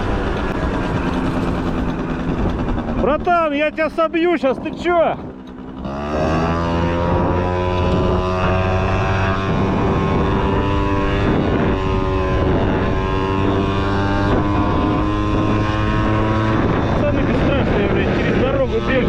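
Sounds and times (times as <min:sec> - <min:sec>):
scooter engine running: 0:00.0 - 0:19.0.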